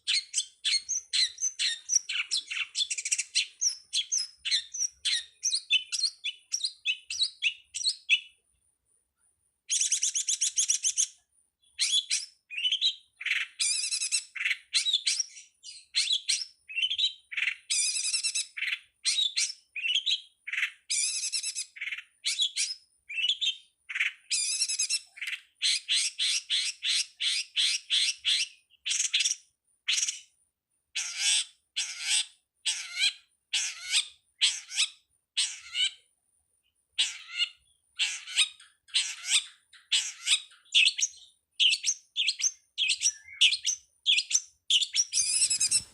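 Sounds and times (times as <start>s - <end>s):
bird singing chirps and chatter: 0.0s - 8.4s, 9.7s - 30.3s, 37.0s - 45.9s.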